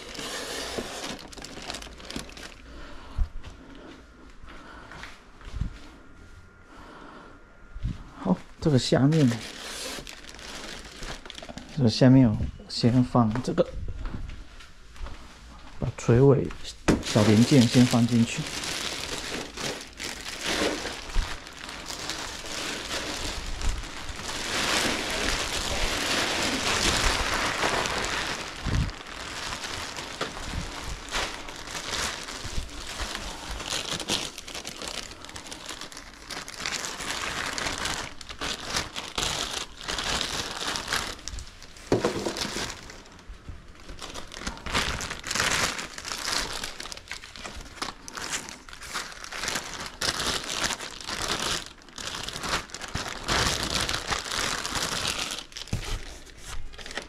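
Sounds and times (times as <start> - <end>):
packing material crinkling: 0.0 - 3.0, 8.6 - 12.4, 16.9 - 57.0.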